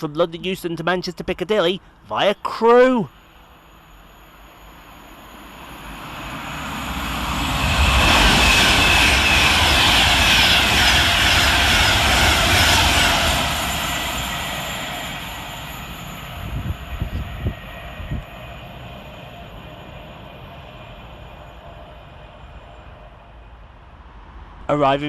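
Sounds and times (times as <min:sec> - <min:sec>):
electric train passing at speed: 0:03.0 - 0:25.0.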